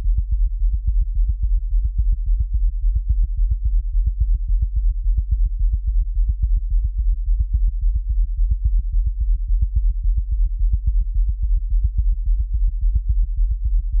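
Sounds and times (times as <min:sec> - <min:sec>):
synthesized racing heartbeat: 0:00.0 - 0:14.0.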